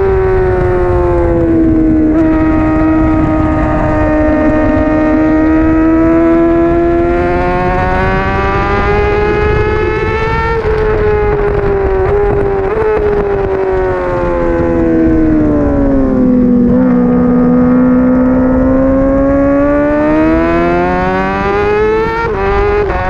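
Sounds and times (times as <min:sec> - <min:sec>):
motorcycle engine revving: 0:00.0 - 0:23.0
wind noise: 0:00.0 - 0:23.0.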